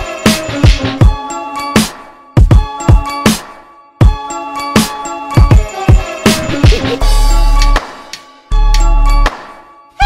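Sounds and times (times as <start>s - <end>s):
background music with kick drums: 0.0s - 9.9s.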